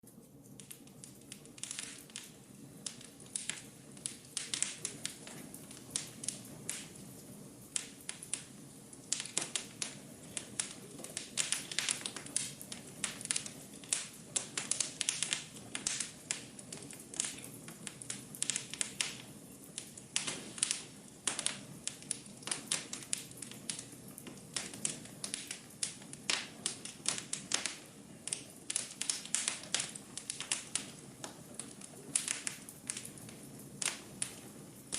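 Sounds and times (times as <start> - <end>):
wood fire crackling: 0.0 - 34.9
flames hissing: 0.1 - 34.9.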